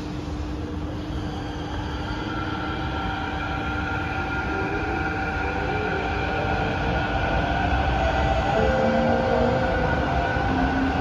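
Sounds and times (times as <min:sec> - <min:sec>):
train low rumble and hum: 0:00.0 - 0:11.0.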